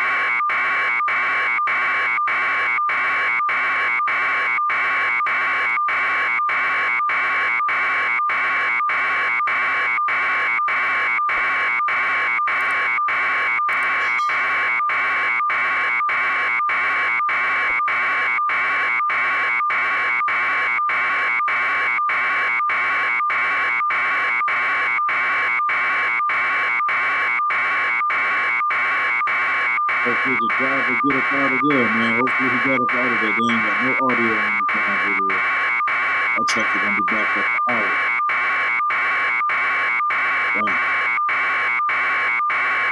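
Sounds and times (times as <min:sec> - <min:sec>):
pulsing electronic alarm buzzer: 0:00.0 - 0:42.9.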